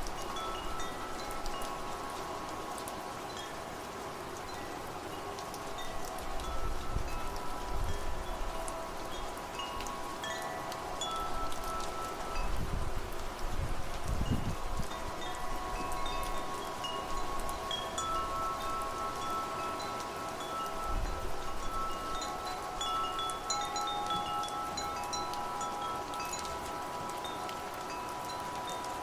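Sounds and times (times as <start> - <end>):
wind and rain hiss: 0.0 - 29.0
wind chimes ringing: 0.0 - 29.0.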